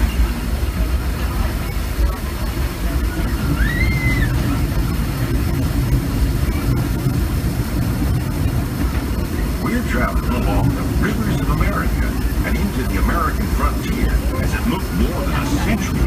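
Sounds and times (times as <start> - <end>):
steam train rumbling: 0.0 - 16.0.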